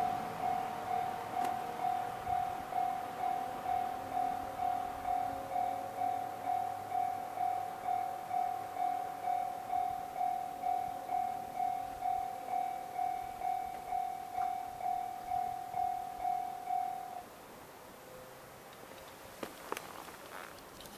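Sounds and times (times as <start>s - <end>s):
level crossing warning bell: 0.0s - 17.3s.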